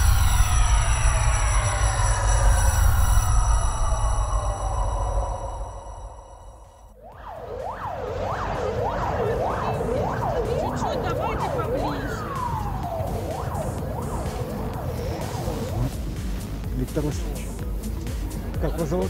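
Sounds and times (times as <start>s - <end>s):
siren wailing in fast sweeps: 0.0s - 16.0s
long falling siren tone: 0.0s - 16.2s
music: 0.0s - 19.0s.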